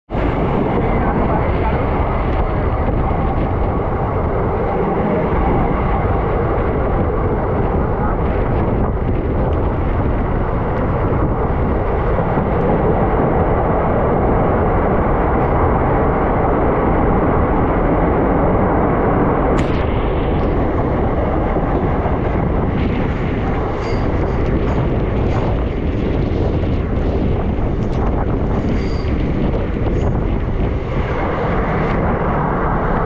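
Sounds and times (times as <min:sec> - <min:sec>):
train wheels rumbling on rails: 0:00.1 - 0:33.0
wind on microphone: 0:00.1 - 0:33.0.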